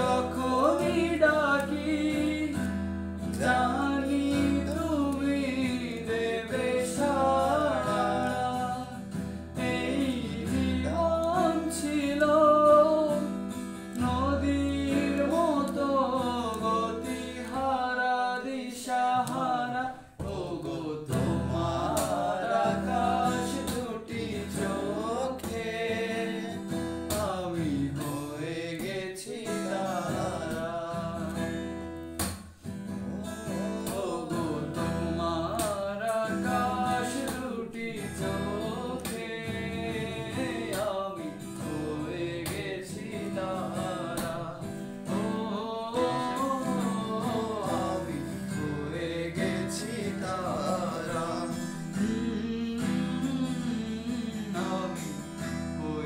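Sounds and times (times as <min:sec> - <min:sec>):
man singing: 0:00.0 - 0:32.0, 0:32.9 - 0:56.0
acoustic guitar: 0:00.0 - 0:56.0.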